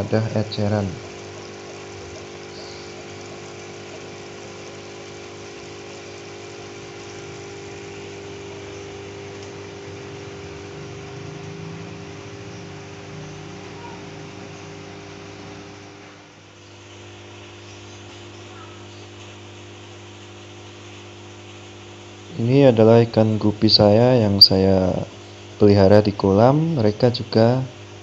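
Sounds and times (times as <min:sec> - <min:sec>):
aquarium pump humming: 0:00.0 - 0:28.0.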